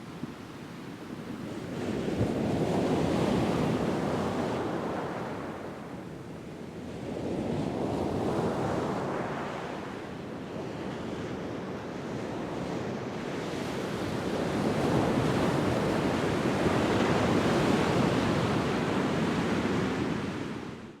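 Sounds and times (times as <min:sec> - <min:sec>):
coastal wind: 0:00.0 - 0:21.0.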